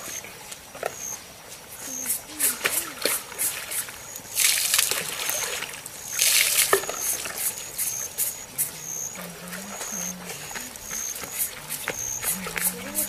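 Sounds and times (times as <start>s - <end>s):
water pouring and splashing: 2.1s - 13.0s.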